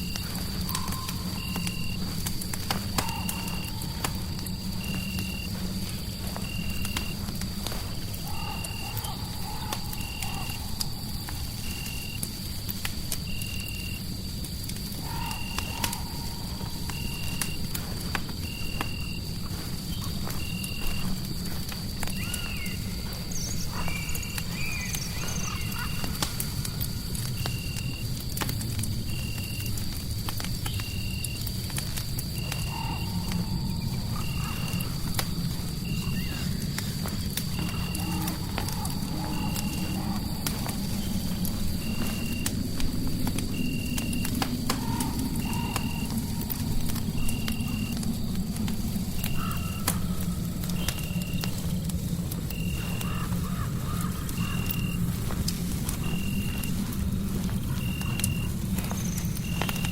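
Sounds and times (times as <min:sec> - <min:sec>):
fireplace crackling: 0:00.0 - 0:59.9.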